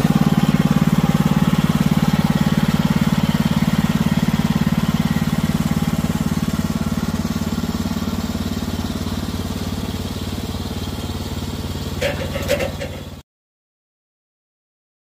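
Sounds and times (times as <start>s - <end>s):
gasoline engine idling: 0.0s - 13.2s.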